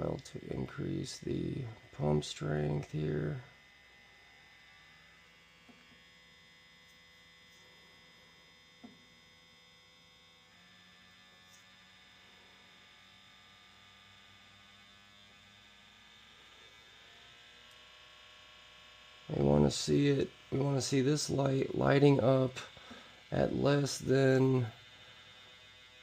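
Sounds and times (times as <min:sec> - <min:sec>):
small pump humming: 0:00.0 - 0:26.0.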